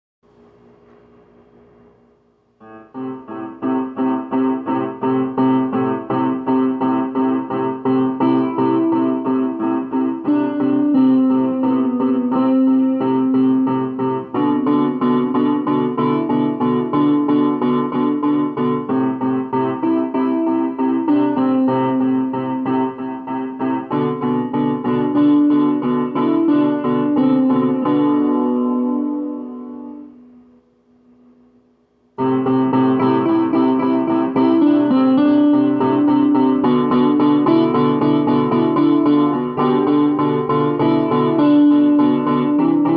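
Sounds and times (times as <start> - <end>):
slow piano tune: 0.3 - 42.9.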